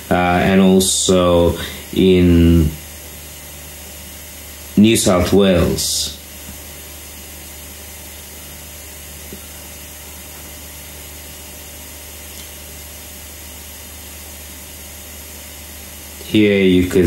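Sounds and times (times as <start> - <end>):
low even hum: 0.0 - 17.0.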